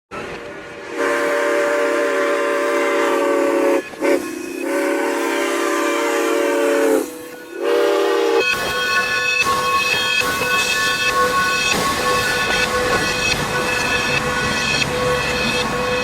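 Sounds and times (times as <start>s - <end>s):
steam locomotive whistle: 0.2s - 16.0s
steam hissing: 0.8s - 16.0s.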